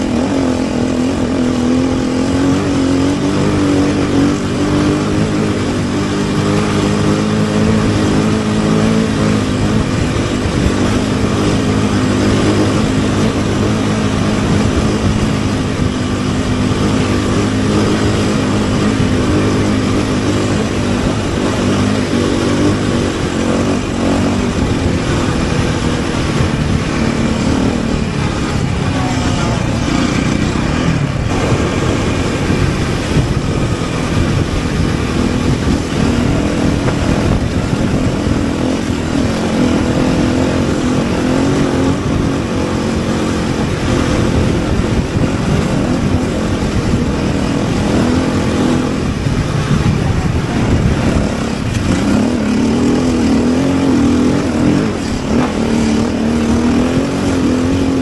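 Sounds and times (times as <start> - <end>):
rally car engine under load: 0.0 - 58.0
steady rushing noise: 0.0 - 58.0.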